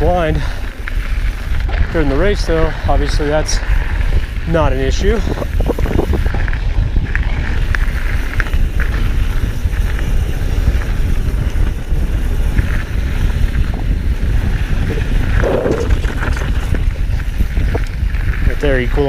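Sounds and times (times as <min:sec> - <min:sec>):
bike clicks and rattles: 0:00.0 - 0:19.0
bike tyres on gravel: 0:00.0 - 0:19.0
wind rumbling on microphone: 0:00.0 - 0:19.0.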